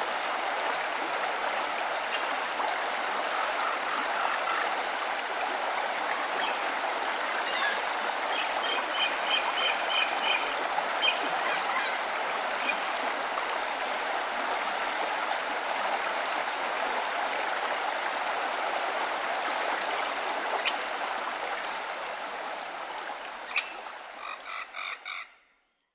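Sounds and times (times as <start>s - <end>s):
flowing stream: 0.0s - 25.3s.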